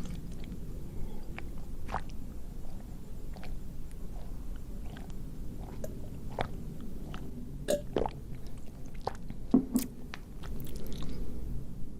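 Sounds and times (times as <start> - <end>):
biting and chewing crunches: 0.0 - 11.2
wet mouth clicks: 1.2 - 11.2.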